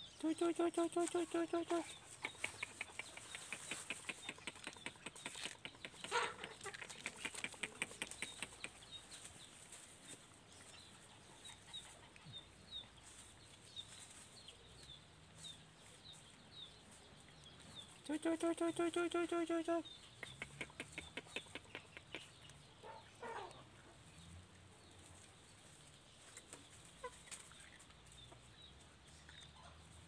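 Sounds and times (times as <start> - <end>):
soft clicking of animals feeding: 0.8 - 22.7, 24.8 - 30.0.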